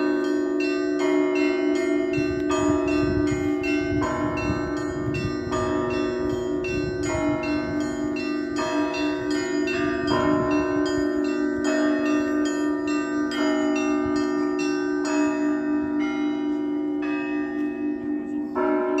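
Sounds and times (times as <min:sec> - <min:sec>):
church bells ringing: 0:00.0 - 0:19.0
deep bell humming: 0:00.0 - 0:19.0.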